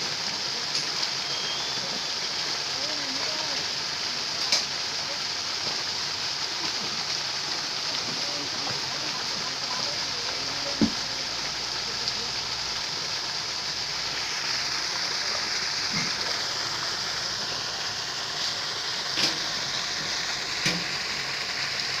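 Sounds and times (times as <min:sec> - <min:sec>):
churning water splashing: 0:00.0 - 0:22.0.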